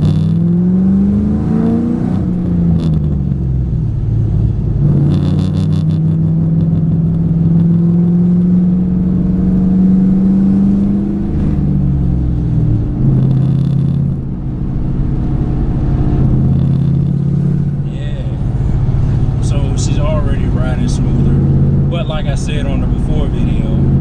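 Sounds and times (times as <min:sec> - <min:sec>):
car engine running while driving: 0:00.0 - 0:24.0.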